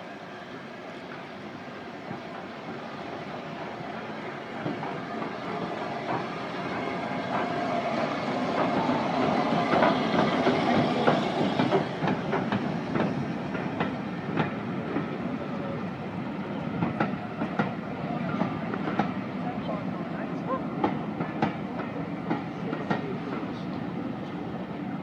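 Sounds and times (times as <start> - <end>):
steam locomotive passing: 0.0 - 25.0.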